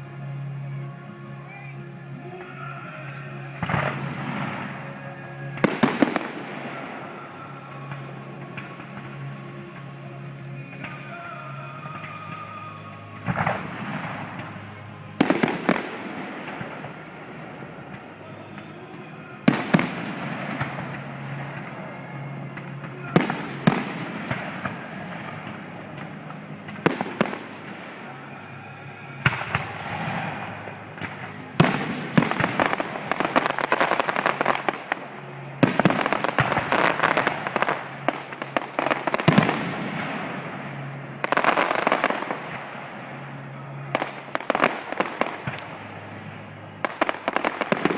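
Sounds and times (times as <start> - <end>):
crackling firework volleys: 0.0 - 47.9
firework shells bursting with bangs: 5.5 - 47.9.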